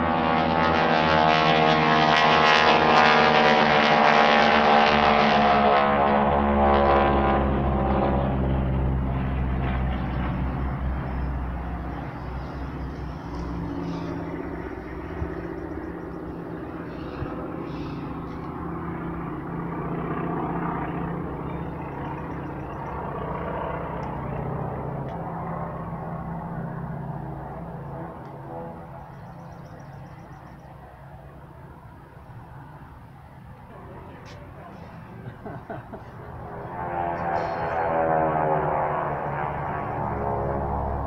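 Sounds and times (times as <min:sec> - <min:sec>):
aircraft engines droning: 0:00.0 - 0:41.0.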